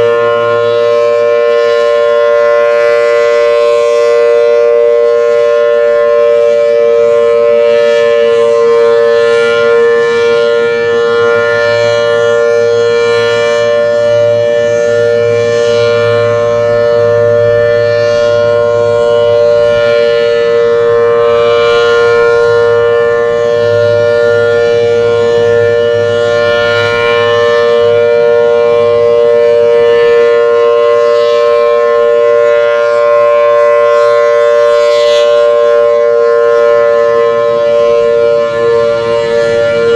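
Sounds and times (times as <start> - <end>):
tornado siren steady chord: 0.0 - 39.9.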